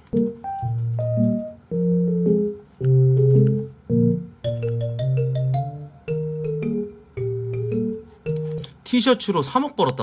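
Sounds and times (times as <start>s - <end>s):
keyboard chords: 0.0s - 8.7s.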